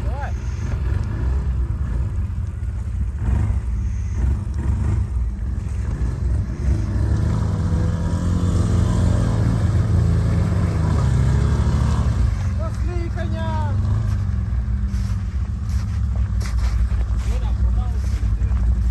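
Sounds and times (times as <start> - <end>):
quad bike engine under load: 0.0 - 18.9.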